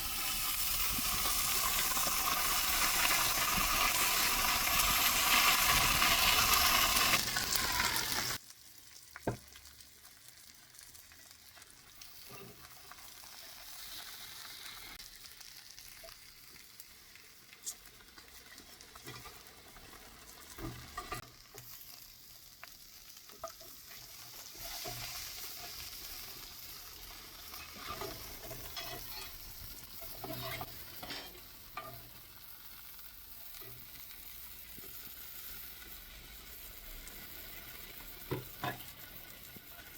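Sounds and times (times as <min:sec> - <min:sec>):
meat sizzling over fire: 0:00.0 - 0:39.9.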